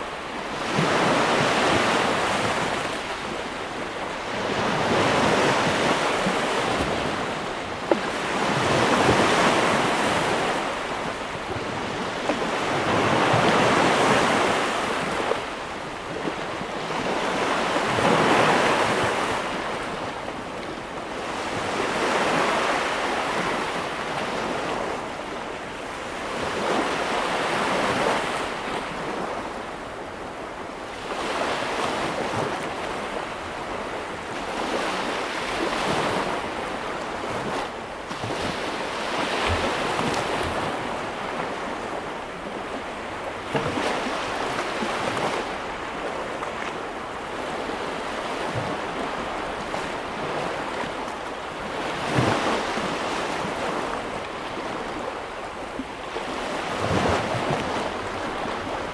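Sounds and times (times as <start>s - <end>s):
sea waves breaking on shore: 0.0s - 58.9s.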